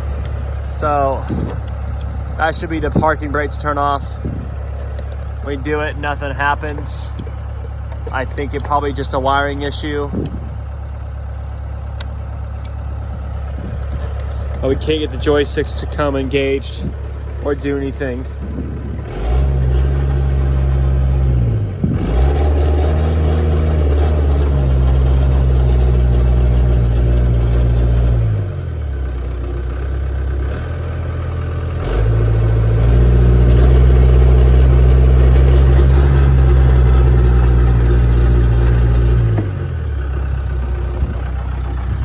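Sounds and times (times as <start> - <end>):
diesel engine revving and idling: 0.0 - 42.0.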